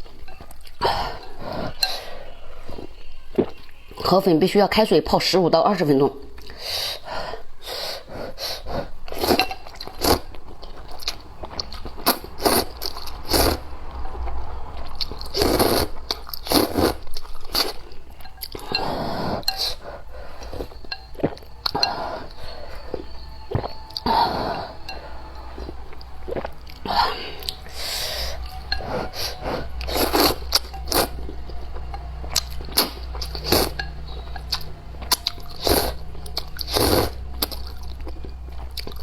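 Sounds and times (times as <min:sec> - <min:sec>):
person chewing noodles: 0:00.0 - 0:04.0, 0:06.2 - 0:39.0.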